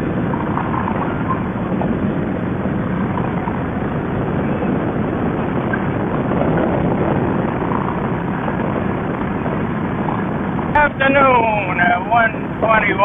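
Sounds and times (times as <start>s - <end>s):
motorcycle engine running: 0.0s - 12.6s
wind and road noise: 0.0s - 13.0s.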